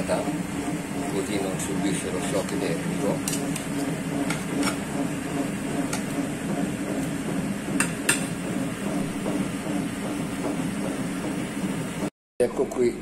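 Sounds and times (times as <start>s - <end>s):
batch freezer humming: 0.0s - 13.0s.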